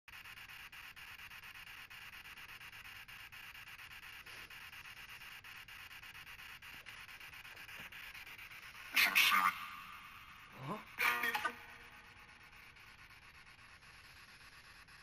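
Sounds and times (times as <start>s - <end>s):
electronic static hiss: 0.1s - 15.0s.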